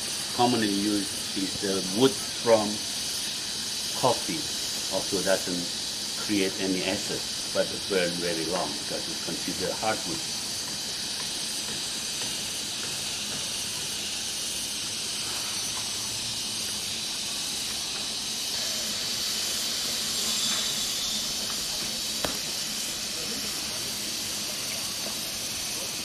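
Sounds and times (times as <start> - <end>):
meat sizzling on a charcoal grill: 0.0 - 26.0.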